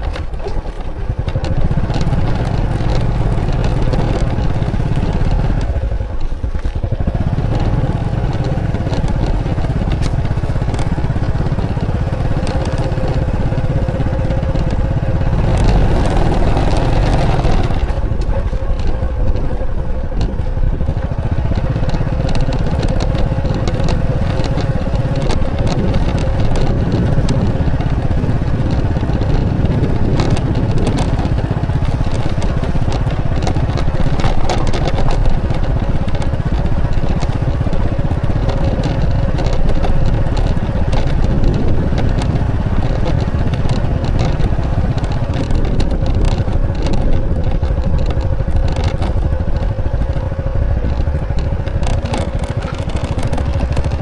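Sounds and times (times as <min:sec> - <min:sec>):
motorcycle cruising: 0:00.0 - 0:54.0
road noise: 0:00.0 - 0:54.0
short crackles: 0:00.0 - 0:54.0.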